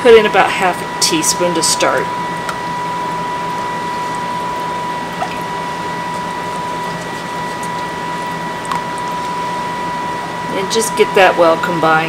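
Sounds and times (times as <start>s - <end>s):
fan or motor hiss and whine: 0.0s - 12.0s.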